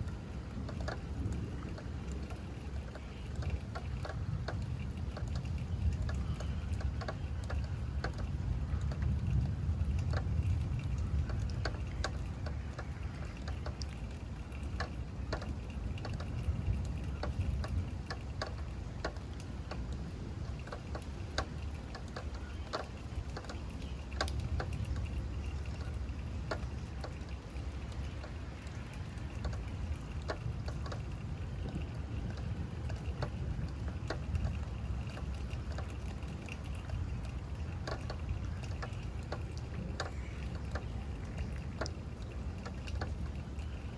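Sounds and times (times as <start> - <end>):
drops tapping and dripping: 0.0 - 43.9
low continuous rumble: 0.0 - 43.9
steady rain: 0.0 - 43.9.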